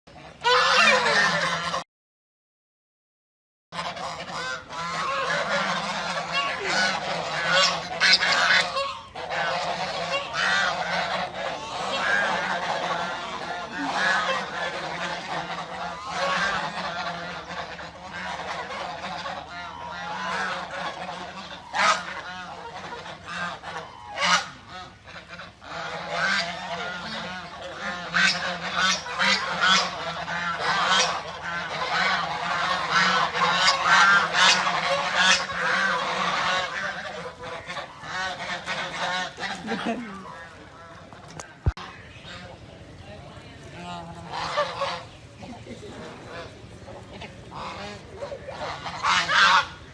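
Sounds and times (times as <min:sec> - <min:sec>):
geese honking: 0:00.1 - 0:01.8, 0:03.8 - 0:49.9.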